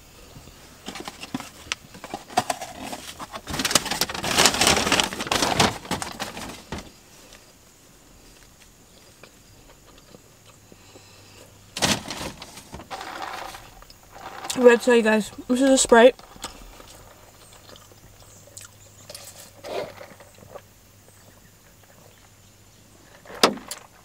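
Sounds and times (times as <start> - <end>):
eating crackling and rustling: 0.4 - 24.0.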